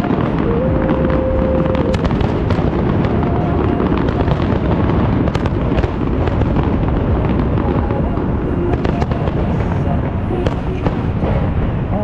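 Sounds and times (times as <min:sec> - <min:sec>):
fireworks shells booming: 0:00.0 - 0:12.0.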